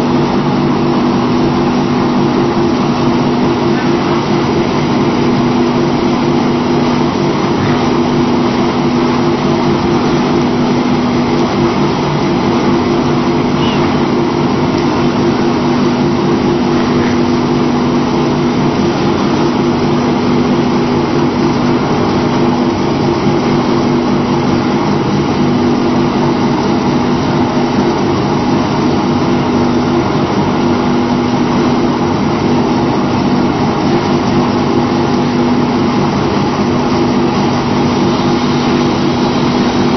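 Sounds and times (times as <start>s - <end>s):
machine drone: 0.0s - 39.9s.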